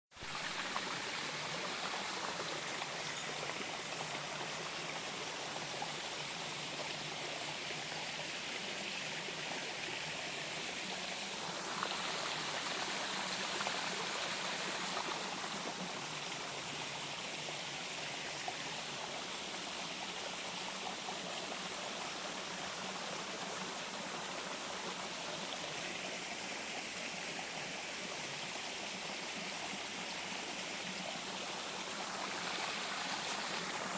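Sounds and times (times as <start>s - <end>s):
small waterfall splashing: 0.1s - 33.9s.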